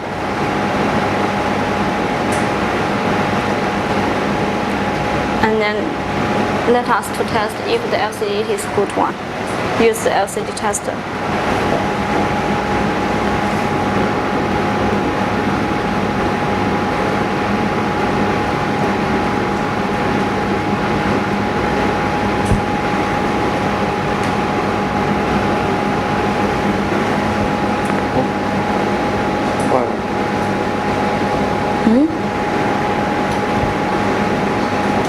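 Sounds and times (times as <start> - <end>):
machine whining and humming: 0.0 - 35.0.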